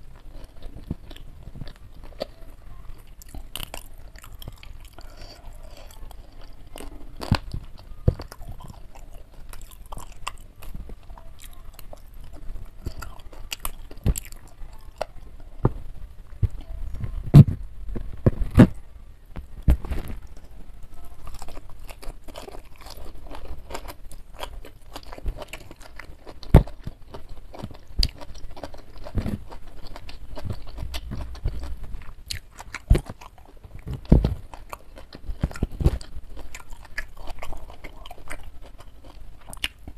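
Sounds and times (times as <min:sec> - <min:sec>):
close chewing with crunches: 0:00.0 - 0:15.3, 0:19.8 - 0:39.9.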